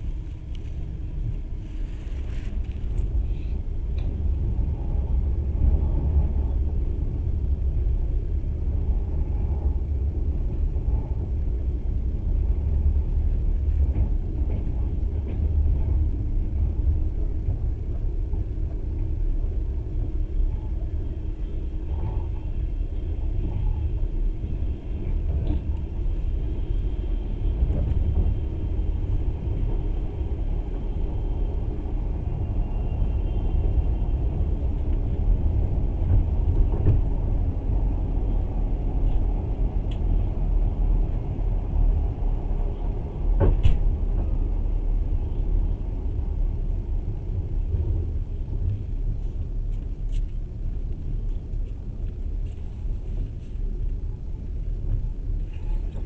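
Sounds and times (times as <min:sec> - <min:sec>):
train rumbling along rails: 0:00.0 - 0:56.0.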